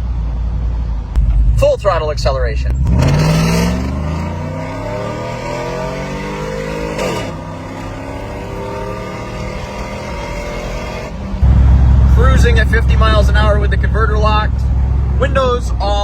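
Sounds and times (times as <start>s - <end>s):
engine accelerating at full throttle: 2.7s - 16.0s.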